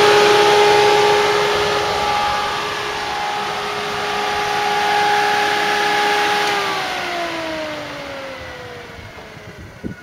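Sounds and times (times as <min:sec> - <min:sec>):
electric fan whining: 0:00.0 - 0:10.0.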